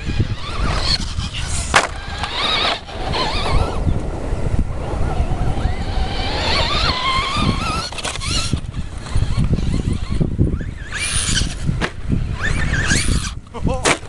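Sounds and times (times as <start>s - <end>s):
electric motor whining: 0.0s - 13.5s
wind rumble on microphone: 0.0s - 14.0s.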